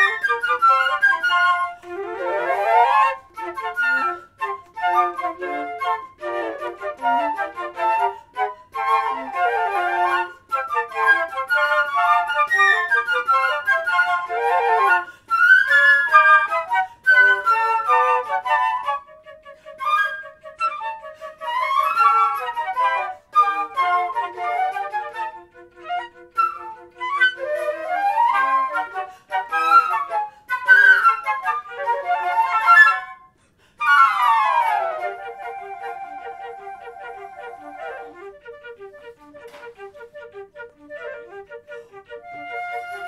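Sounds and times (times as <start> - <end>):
flute quartet playing: 0.0 - 43.0.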